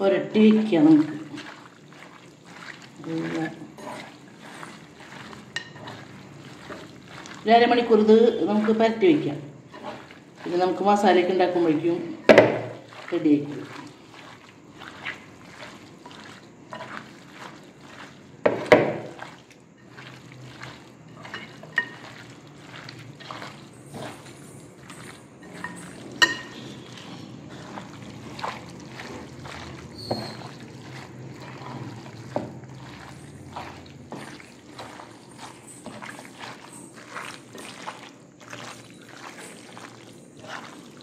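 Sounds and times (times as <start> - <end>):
wet squelching of raw chicken: 0.8 - 8.8, 9.6 - 10.6, 12.6 - 41.0.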